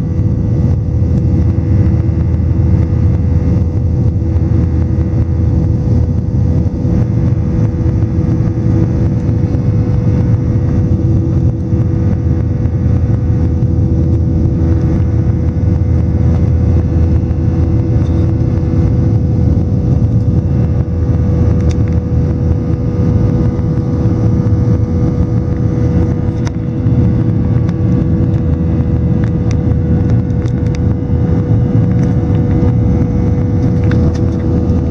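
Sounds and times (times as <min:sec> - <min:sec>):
jet engines rumbling in cabin: 0:00.0 - 0:34.9.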